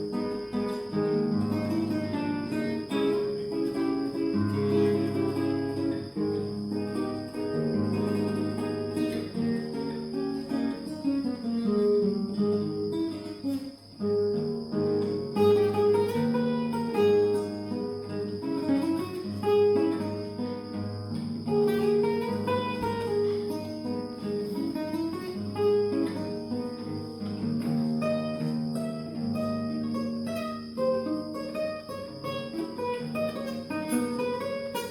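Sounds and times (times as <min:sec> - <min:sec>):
plucked guitar melody: 0:00.0 - 0:34.9.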